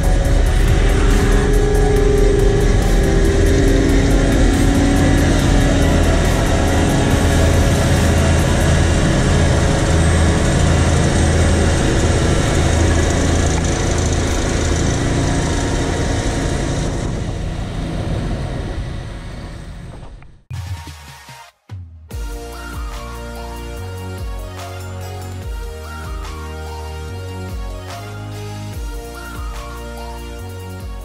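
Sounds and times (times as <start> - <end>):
asphalt paver diesel engine drone: 0.0 - 20.5, 22.3 - 30.8.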